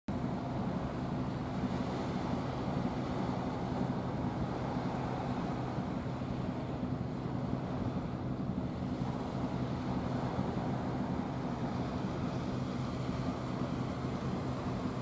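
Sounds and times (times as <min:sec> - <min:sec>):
steady low hum: 0:00.1 - 0:15.0
surf: 0:00.1 - 0:15.0
wind: 0:00.1 - 0:15.0.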